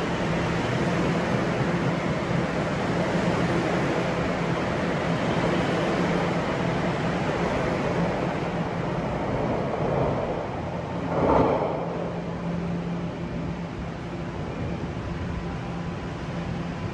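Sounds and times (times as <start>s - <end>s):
subway train pulling out: 0.0s - 16.9s.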